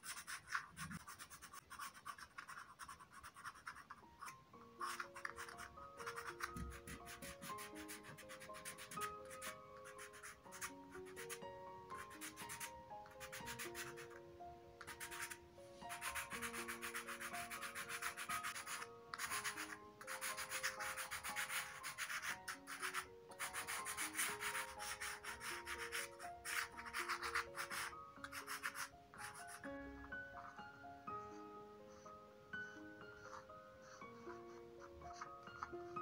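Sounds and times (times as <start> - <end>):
pastel scraping on card: 0.0 - 14.2, 14.8 - 29.6, 32.7 - 36.0
slow background melody: 0.0 - 36.0.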